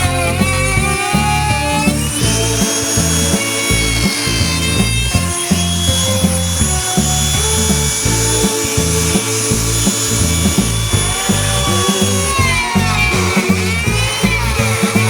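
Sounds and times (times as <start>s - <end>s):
electric power tool whine: 0.0s - 15.0s
music with steady beat and bass: 0.0s - 15.0s.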